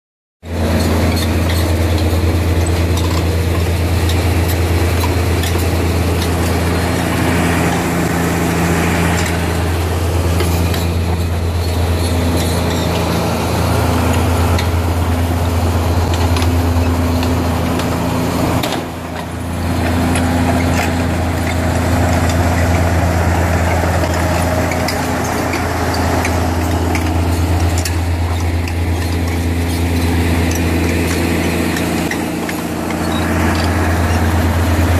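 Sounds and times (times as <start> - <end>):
diesel engine humming: 0.5 - 34.9.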